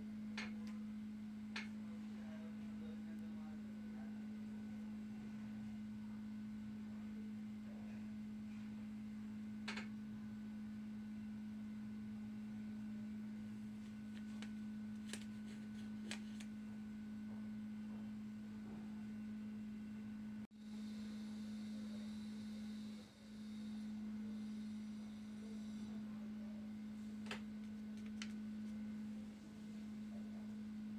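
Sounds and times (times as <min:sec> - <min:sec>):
steady humming tone: 0:00.0 - 0:30.9.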